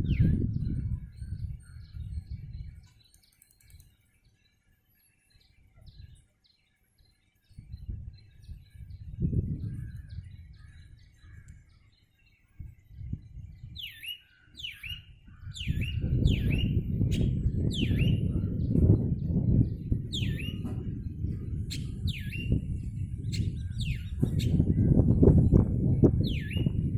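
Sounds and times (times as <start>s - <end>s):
bird chirping: 0.0s - 25.6s, 26.2s - 26.9s.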